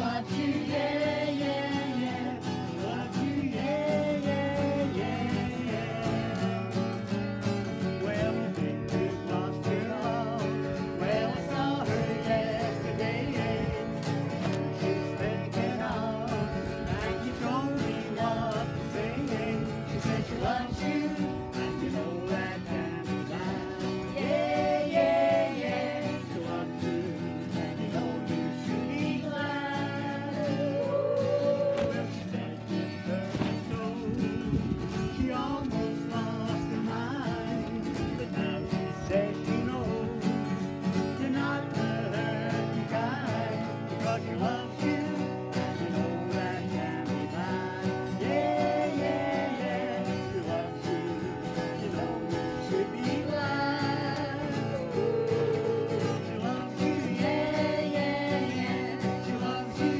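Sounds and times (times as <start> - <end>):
acoustic guitar strumming: 0.0 - 59.9
people singing along: 0.0 - 59.9.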